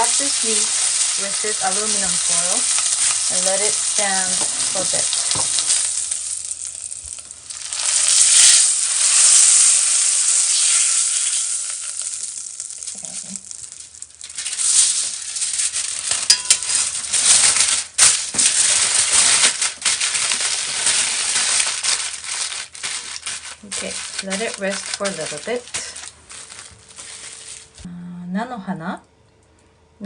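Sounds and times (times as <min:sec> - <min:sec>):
aluminium foil crinkling: 0:00.0 - 0:27.9
hot pan sizzling: 0:00.0 - 0:27.9.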